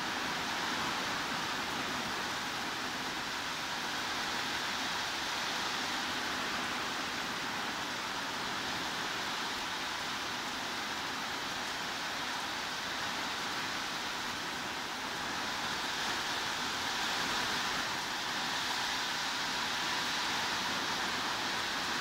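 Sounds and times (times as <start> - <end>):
heavy rain hiss: 0.0 - 22.0.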